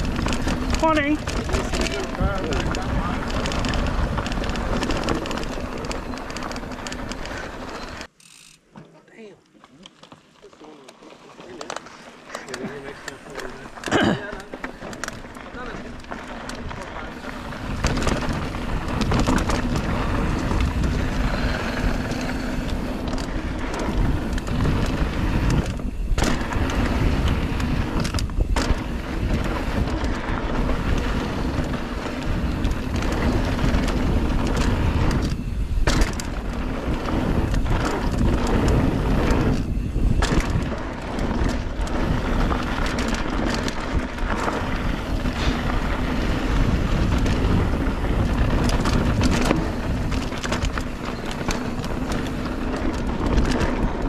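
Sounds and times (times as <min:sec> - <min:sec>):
wind on microphone: 0:00.0 - 0:07.5, 0:16.6 - 0:54.0
bike tyres rumbling over dirt: 0:00.0 - 0:08.1, 0:09.6 - 0:54.0.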